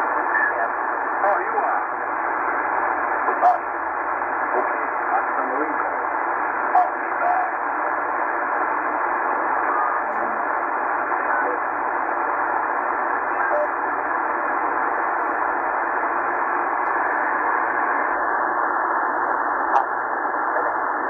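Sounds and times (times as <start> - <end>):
shortwave radio hiss and static: 0.0 - 21.0.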